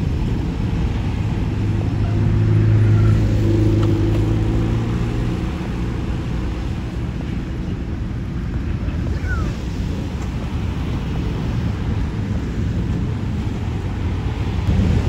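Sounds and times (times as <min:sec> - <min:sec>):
freight train rolling over rails: 0:00.0 - 0:15.0
road vehicle engine hum: 0:00.0 - 0:15.0.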